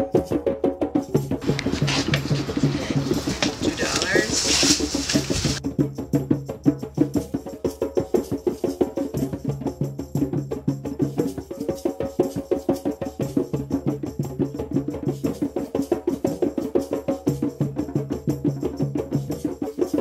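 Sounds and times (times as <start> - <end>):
fast busy percussion rhythm: 0.0 - 20.0.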